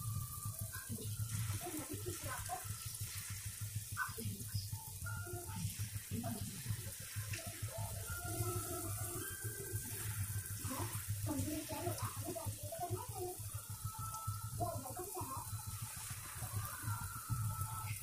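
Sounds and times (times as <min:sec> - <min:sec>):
fritters sizzling in hot oil: 0:00.0 - 0:18.0
low steady hum: 0:00.0 - 0:18.0.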